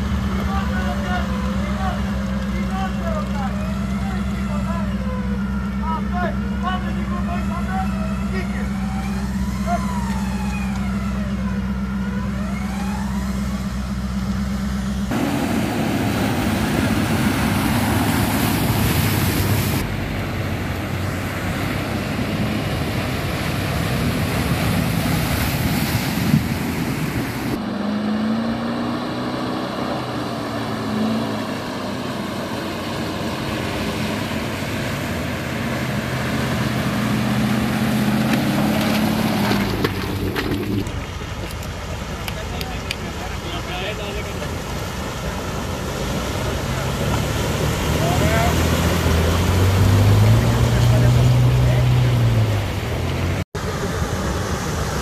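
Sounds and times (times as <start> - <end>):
engine hum with whine: 0.0 - 55.0
engine revving: 0.0 - 55.0
rumble of driving over rough ground: 0.0 - 55.0.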